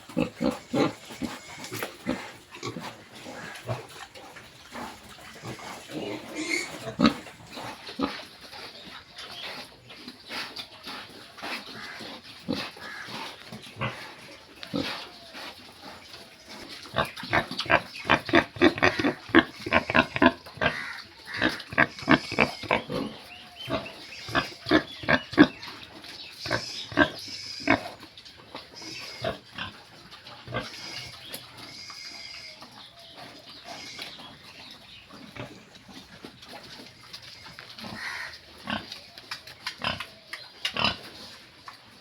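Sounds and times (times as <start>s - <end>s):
pigs grunting: 0.0s - 41.8s.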